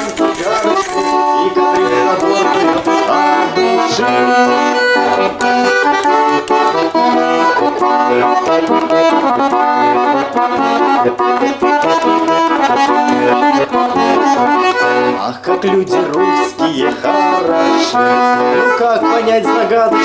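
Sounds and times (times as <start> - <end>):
button accordion playing folk melody: 0.0 - 20.0.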